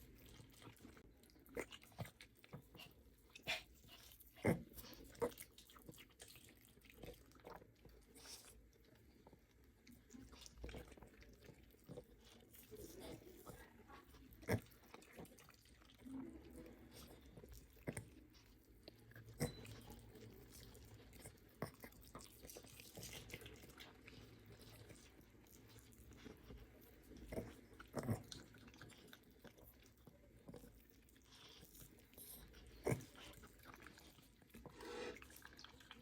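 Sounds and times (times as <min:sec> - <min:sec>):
dog gnawing on bone: 0:00.0 - 0:36.0.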